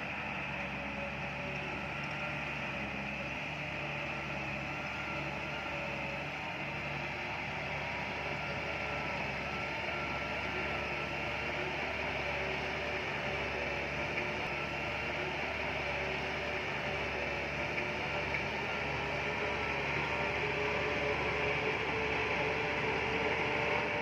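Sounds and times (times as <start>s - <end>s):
heavy machine engine drone: 0.0s - 24.0s.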